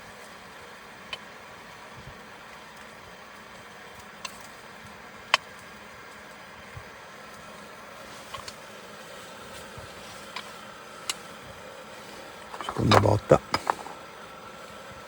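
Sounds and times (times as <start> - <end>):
wood stove burning: 0.0 - 15.0.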